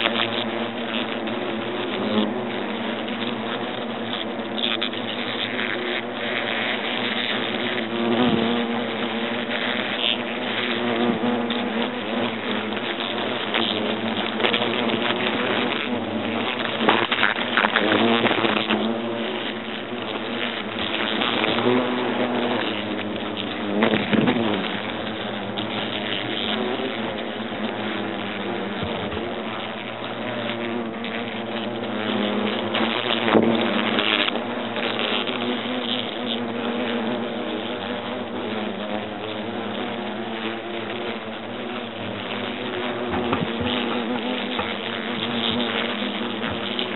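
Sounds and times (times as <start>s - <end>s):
hornets buzzing in flight: 0.0s - 46.9s.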